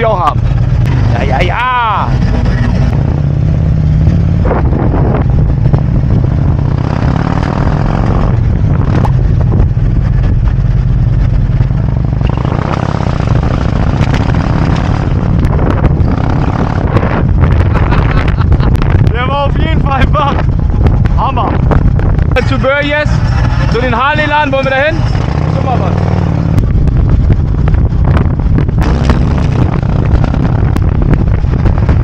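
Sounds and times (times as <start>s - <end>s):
motorcycle engine rumble: 0.0s - 32.0s
wind and road noise: 0.0s - 32.0s.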